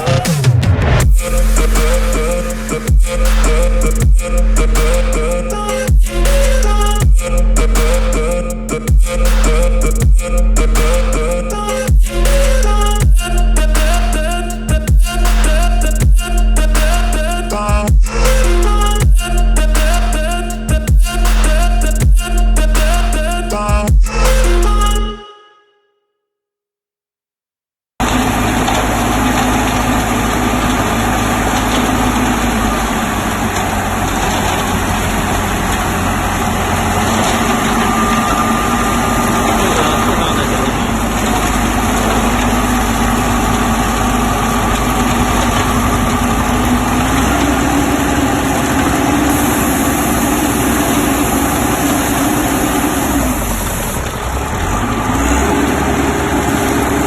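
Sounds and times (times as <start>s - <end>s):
mixer truck engine running: 0.0s - 25.0s, 28.0s - 57.0s.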